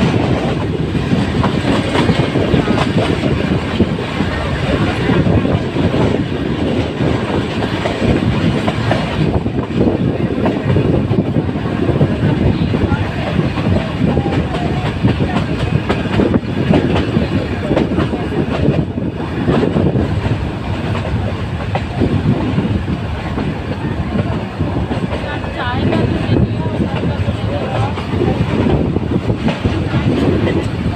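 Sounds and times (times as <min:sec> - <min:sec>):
train wheels clattering over rails: 0:00.0 - 0:30.9.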